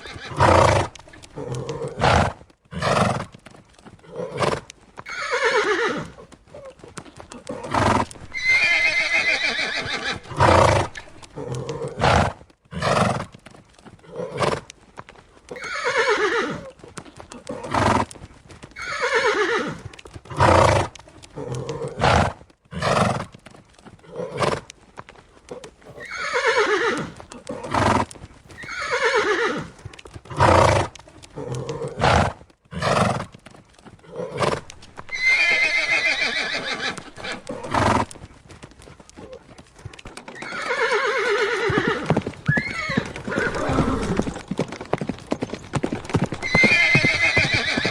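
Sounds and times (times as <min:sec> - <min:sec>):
horses neighing: 0:00.0 - 0:14.7, 0:15.5 - 0:18.2, 0:18.8 - 0:23.4, 0:25.5 - 0:38.3, 0:39.1 - 0:47.9.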